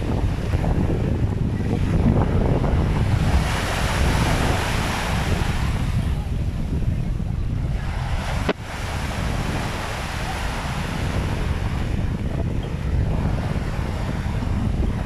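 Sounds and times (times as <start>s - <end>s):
small waves breaking on sand: 0.0s - 6.3s, 7.7s - 15.0s
wind buffeting microphone: 0.0s - 15.0s.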